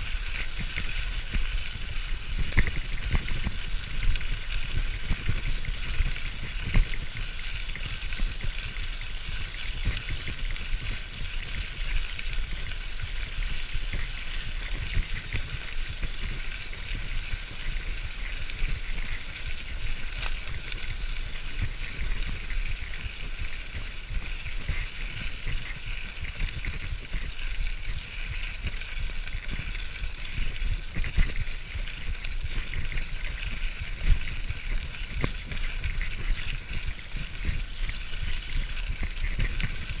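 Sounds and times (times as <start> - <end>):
muffled bicycle rumble: 0.0 - 40.0
steady hiss: 0.0 - 40.0.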